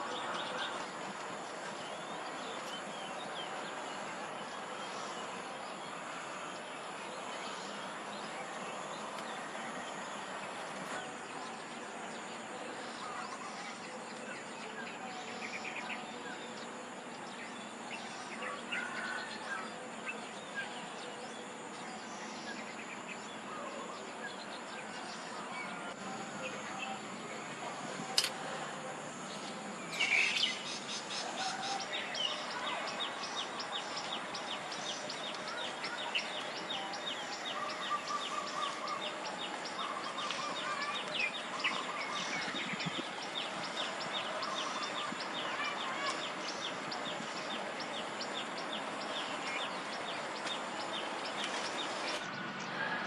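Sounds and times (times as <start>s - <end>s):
small birds chirping: 0.0s - 52.8s.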